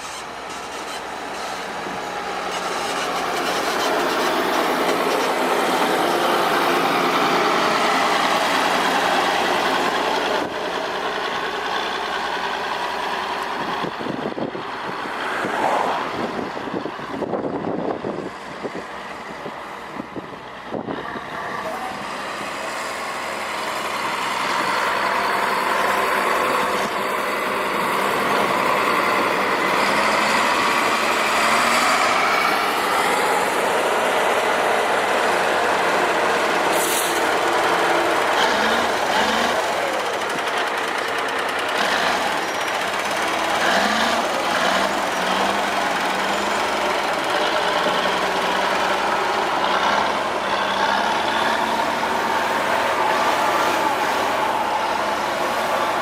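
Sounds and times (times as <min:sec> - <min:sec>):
diesel machinery engines running: 0:00.0 - 0:56.0.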